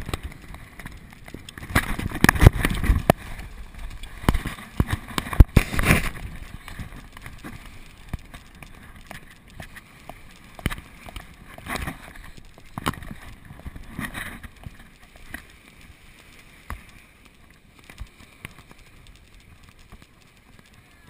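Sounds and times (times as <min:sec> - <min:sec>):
wind noise: 0:00.0 - 0:21.0.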